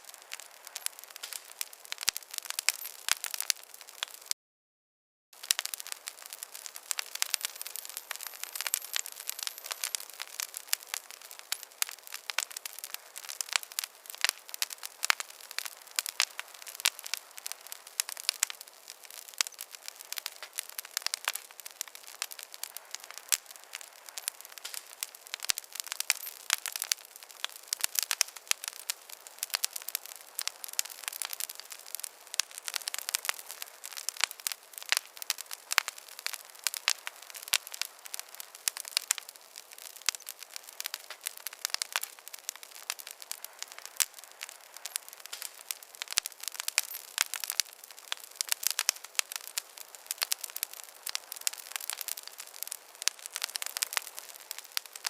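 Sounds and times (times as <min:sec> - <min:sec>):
campfire crackling: 0:00.0 - 0:04.4, 0:05.4 - 0:55.0
faint hiss: 0:05.4 - 0:55.0.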